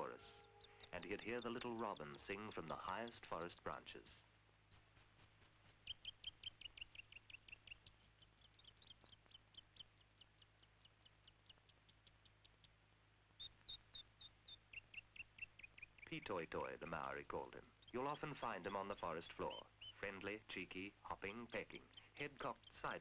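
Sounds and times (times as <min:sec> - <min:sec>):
bird singing whistled notes: 0:00.0 - 0:03.5, 0:04.7 - 0:12.7, 0:13.4 - 0:16.7, 0:17.4 - 0:23.0.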